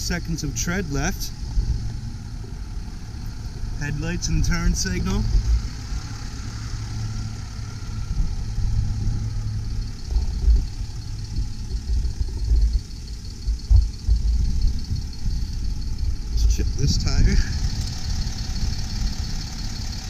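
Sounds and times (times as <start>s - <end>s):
diesel engine idling: 0.0s - 20.0s
low rumbles: 0.0s - 20.0s.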